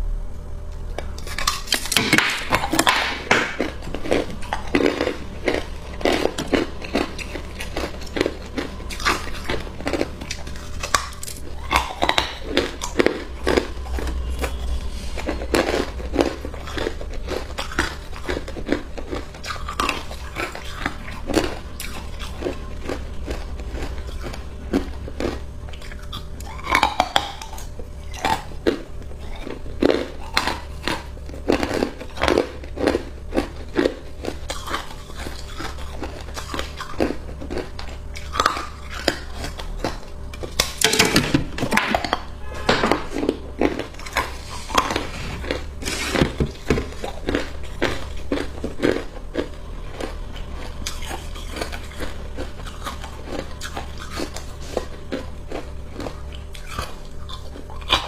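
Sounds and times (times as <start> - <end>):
steady low hum: 0.0 - 58.0
ice crunching between teeth: 1.0 - 42.4, 43.1 - 58.0.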